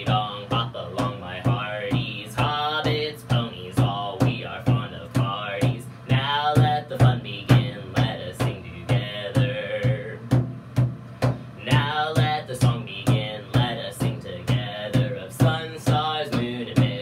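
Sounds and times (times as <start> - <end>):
person singing sea shanty: 0.0 - 10.4, 11.6 - 17.0
percussive beat of thumps and clicks: 0.0 - 17.0.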